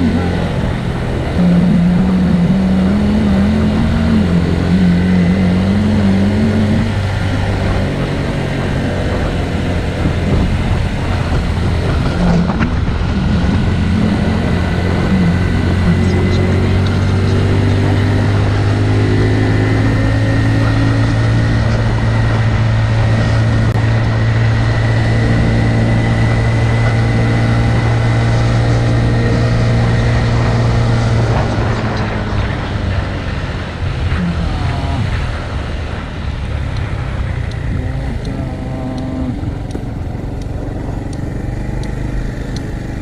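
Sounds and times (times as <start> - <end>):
motorcycle engine cruising: 0.0 - 43.0.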